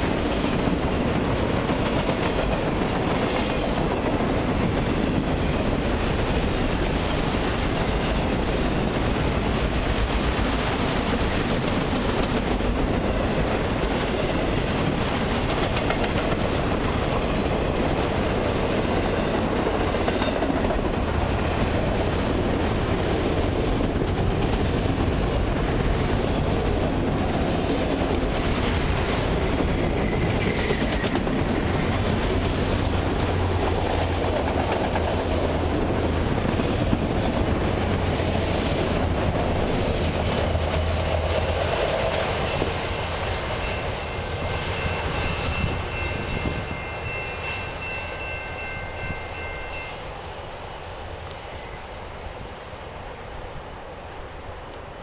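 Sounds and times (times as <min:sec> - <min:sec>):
freight train wheels clattering: 0:00.0 - 0:49.9.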